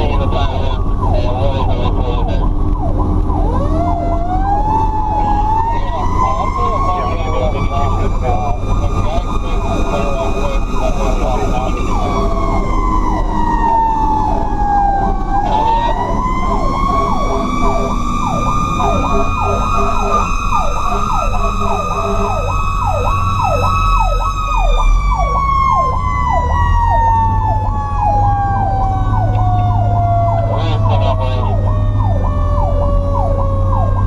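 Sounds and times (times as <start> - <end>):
truck engine rumbling: 0.0 - 34.0
electronic siren sweeping fast: 0.3 - 34.0.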